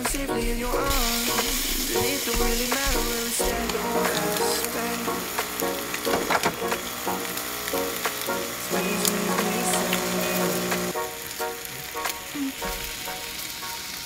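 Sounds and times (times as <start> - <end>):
background music: 0.0 - 14.0
food sizzling in frying pan: 0.8 - 14.0.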